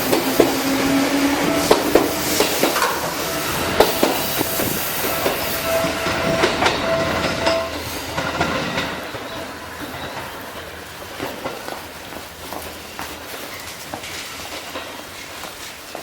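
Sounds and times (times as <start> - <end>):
train wheel squeal: 0.0 - 10.8, 12.9 - 16.0
wheels clacking over rail joints: 0.0 - 16.0.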